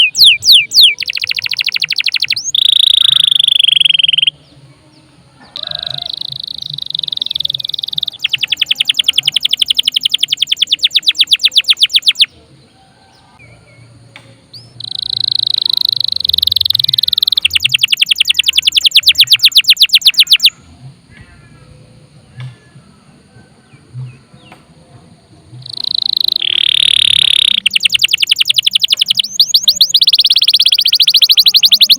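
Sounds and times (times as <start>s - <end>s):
canary singing: 0.0s - 31.9s.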